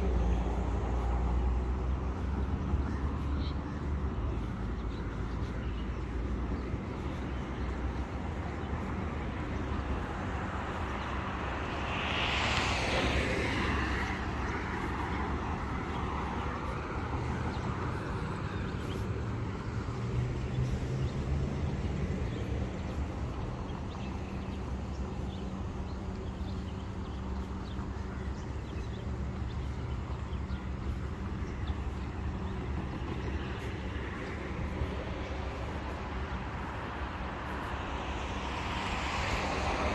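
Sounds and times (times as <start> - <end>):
car passing: 0.0 - 39.9
traffic rumble: 0.0 - 39.9.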